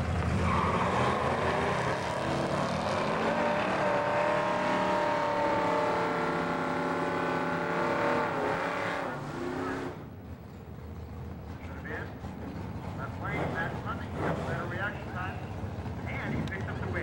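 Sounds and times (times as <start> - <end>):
drag racing cars at full throttle: 0.0 - 17.0.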